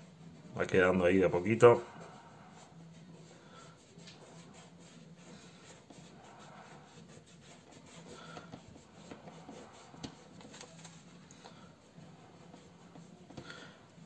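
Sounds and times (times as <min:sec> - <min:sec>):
fingertips rubbing on paper: 0:00.0 - 0:14.0.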